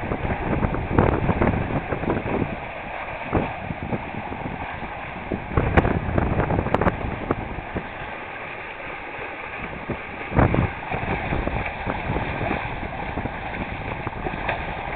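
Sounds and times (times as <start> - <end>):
water splashing along boat hulls: 0.0 - 14.9.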